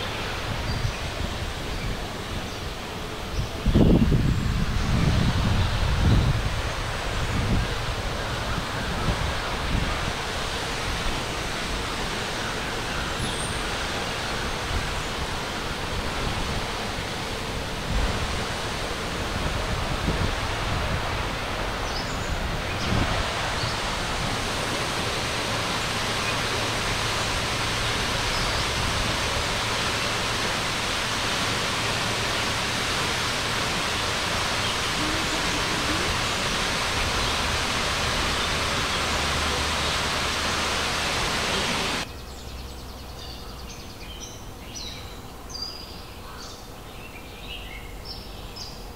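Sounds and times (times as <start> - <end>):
waterfall rushing: 0.0 - 42.1.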